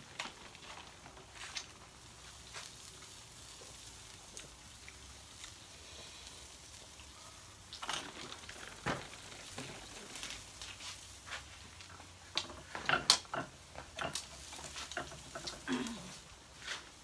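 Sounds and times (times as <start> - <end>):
food sizzling on grill: 0.0 - 17.0.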